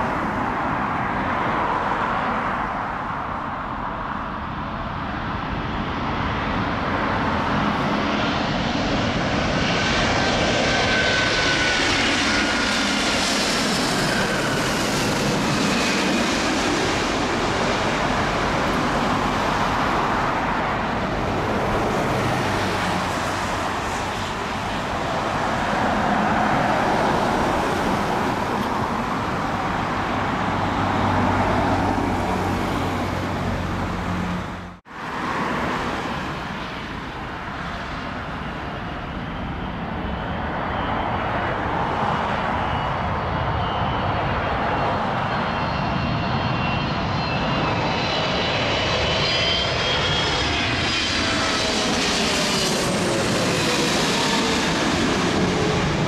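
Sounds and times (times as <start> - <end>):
jet roar with descending whine: 0.0 - 56.0
steady jet engine roar: 0.0 - 56.0.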